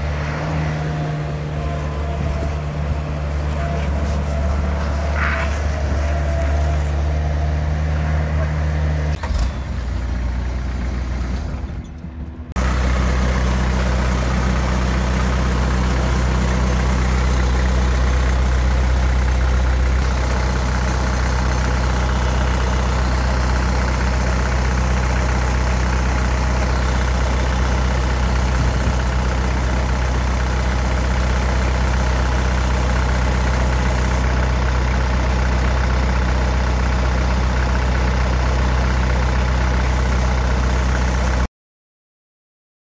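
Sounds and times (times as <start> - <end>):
diesel loader engine idling: 0.0 - 41.5.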